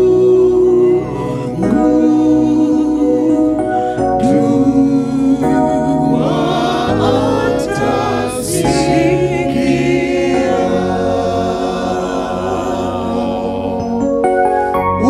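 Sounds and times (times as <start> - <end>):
choir singing gospel in harmony: 0.0 - 15.0.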